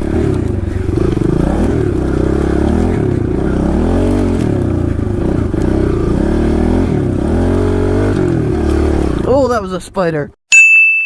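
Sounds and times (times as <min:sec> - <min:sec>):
small motorcycle engine revving: 0:00.0 - 0:09.4.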